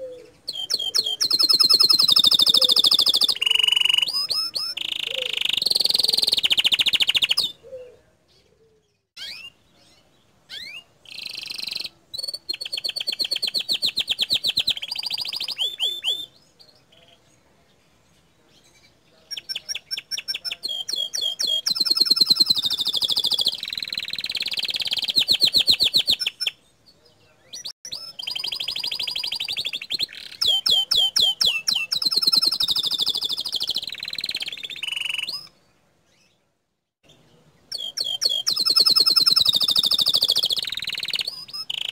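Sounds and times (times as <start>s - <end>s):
canary singing trills: 0.0s - 36.4s, 37.0s - 41.9s.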